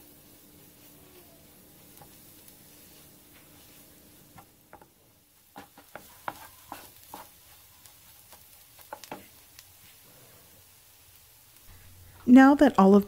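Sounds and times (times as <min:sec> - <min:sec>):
wooden spoon scraping a skillet: 0:00.0 - 0:10.6
faint sizzle: 0:00.0 - 0:13.0.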